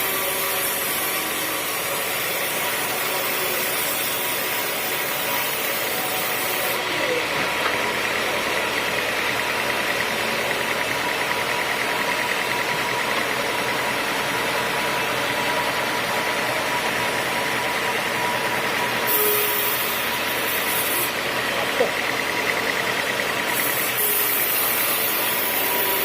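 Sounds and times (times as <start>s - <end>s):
sawmill machinery whining: 0.0s - 26.0s.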